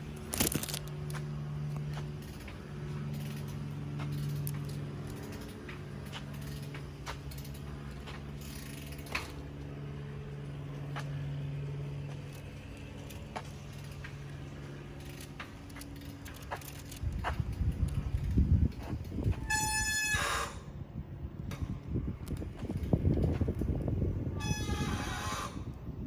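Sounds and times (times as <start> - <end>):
bicycle parts rattling and clicking: 0.0 - 20.7, 21.4 - 25.8
steady low hum: 0.0 - 26.0.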